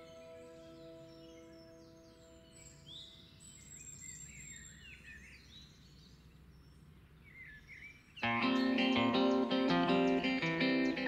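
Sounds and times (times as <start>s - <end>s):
faint chirping bird calls: 0.0s - 11.0s
low outdoor background noise: 0.0s - 11.0s.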